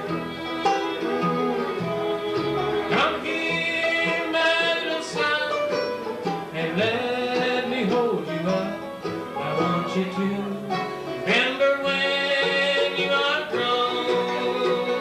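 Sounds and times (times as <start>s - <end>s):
banjo: 0.0s - 15.0s
bluegrass band playing: 0.0s - 15.0s
sliding melody notes: 0.0s - 15.0s.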